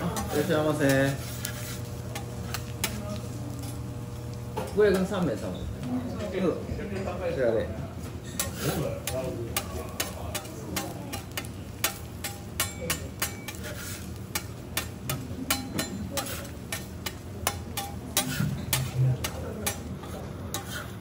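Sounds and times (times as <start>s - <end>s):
spatula scraping on steel griddle: 0.0s - 5.2s, 8.2s - 21.0s.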